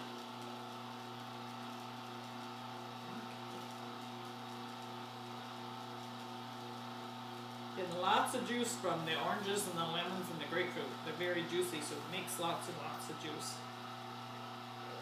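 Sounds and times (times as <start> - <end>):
juicer motor humming: 0.0 - 15.0.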